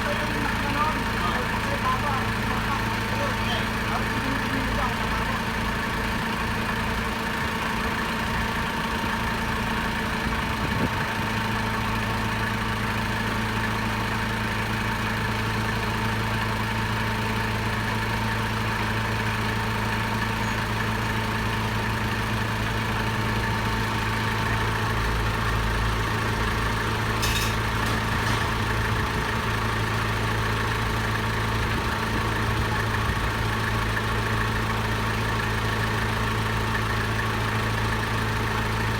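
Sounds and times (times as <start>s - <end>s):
forklift engine idling: 0.0s - 38.9s.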